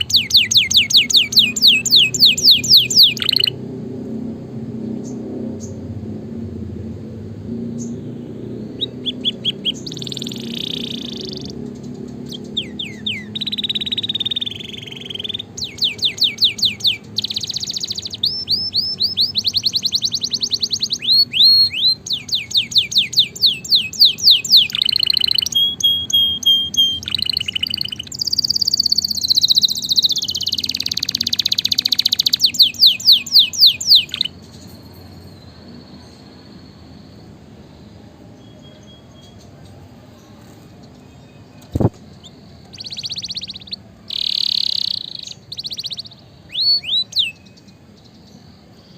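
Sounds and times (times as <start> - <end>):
canary singing trills: 0.0 - 3.8, 7.6 - 48.9.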